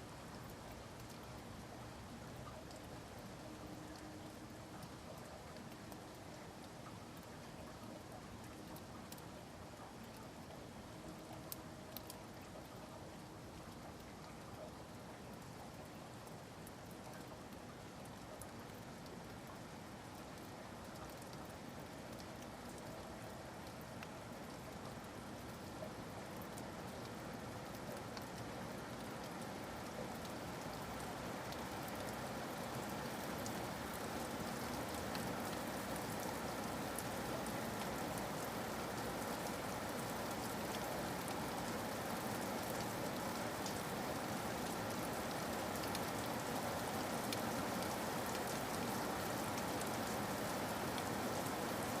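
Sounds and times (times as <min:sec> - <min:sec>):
steady rain falling: 0:00.0 - 0:52.0
raindrop ticks: 0:00.1 - 0:52.0.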